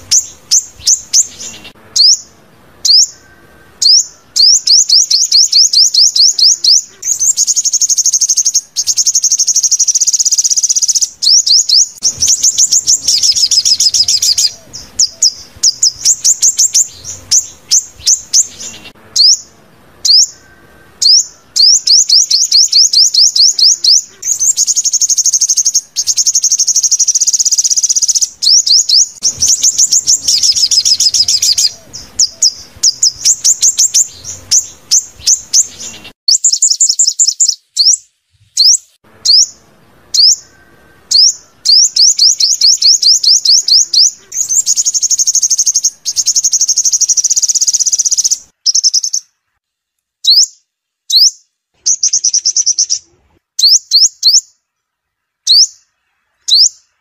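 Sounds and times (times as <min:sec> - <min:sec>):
sunbird high-pitched trills: 0:00.0 - 0:49.4, 0:50.2 - 0:53.0, 0:53.6 - 0:54.8, 0:55.4 - 0:57.0.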